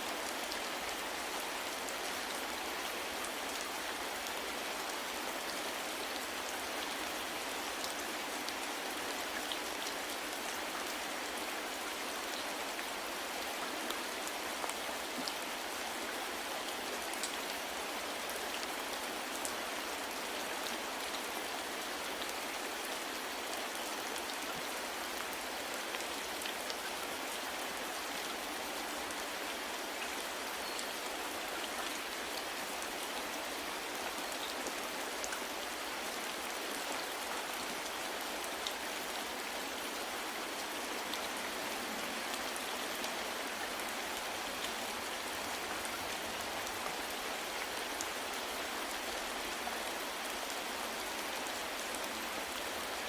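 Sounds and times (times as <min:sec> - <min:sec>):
rain pattering on a surface: 0:00.0 - 0:53.0.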